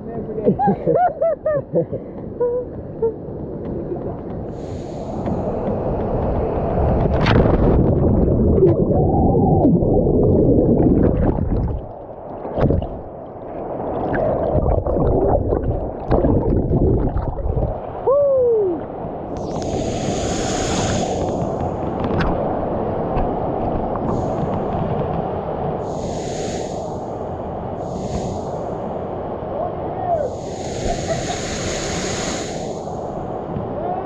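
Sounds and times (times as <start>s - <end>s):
water churning and gurgling: 2.4s - 33.8s.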